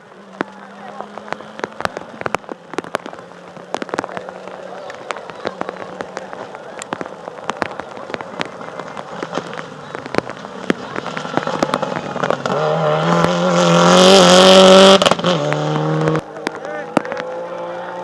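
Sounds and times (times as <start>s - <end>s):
rally car engine approaching: 0.0s - 18.0s
sharp crackling clicks: 0.0s - 18.0s.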